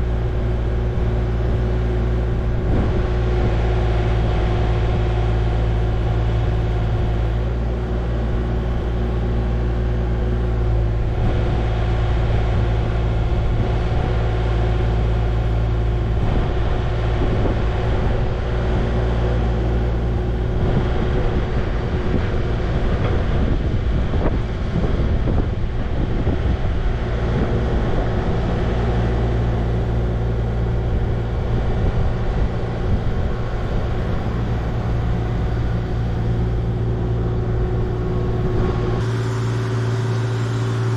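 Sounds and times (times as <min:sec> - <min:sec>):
steady hum: 0:00.0 - 0:40.9
vehicle engine drone: 0:00.0 - 0:40.9.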